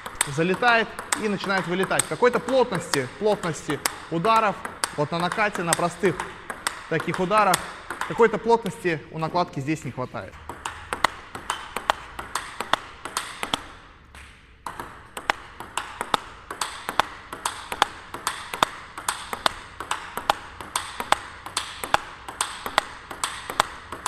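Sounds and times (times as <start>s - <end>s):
table tennis ball struck by rackets: 0.0s - 8.8s, 10.2s - 24.0s
ball bouncing on table: 0.0s - 9.4s, 10.2s - 24.0s.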